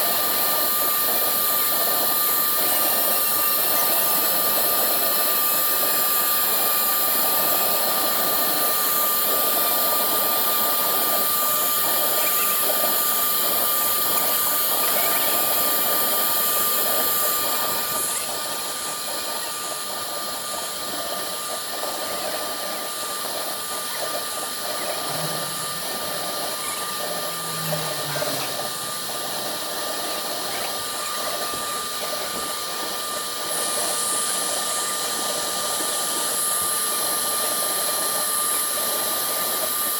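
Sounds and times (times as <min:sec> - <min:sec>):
cutting noise hiss: 0:00.0 - 0:39.9
router spindle whine: 0:00.0 - 0:39.9.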